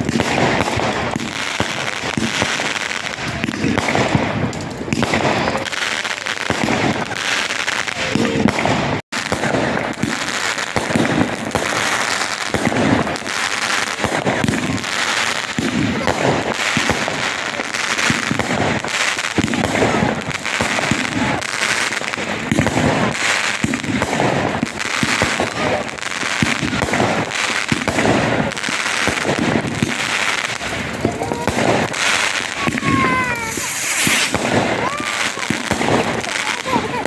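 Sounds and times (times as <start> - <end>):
fireworks bangs and crackles: 0.0 - 37.0
voices: 0.7 - 8.8, 9.4 - 37.0.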